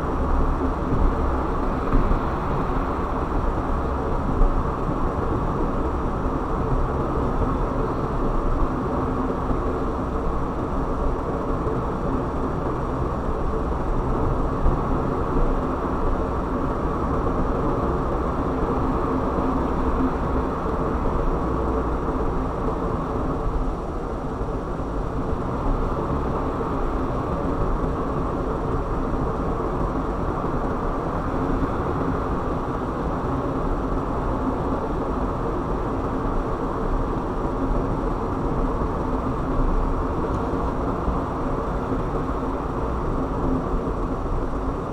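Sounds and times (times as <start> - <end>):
car driving on road: 0.0 - 44.9.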